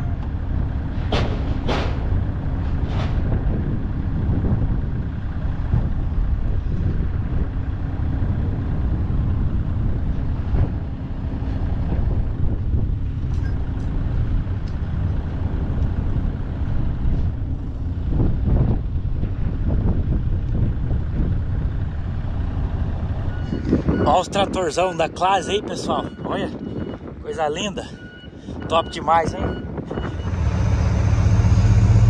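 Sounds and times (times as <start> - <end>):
heavy truck engine and road rumble: 0.0 - 32.0.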